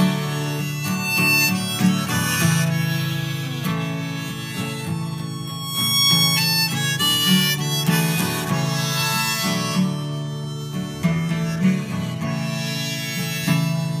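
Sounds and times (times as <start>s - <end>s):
acoustic guitar accompaniment: 0.0s - 14.0s
harmonica melody: 0.0s - 14.0s.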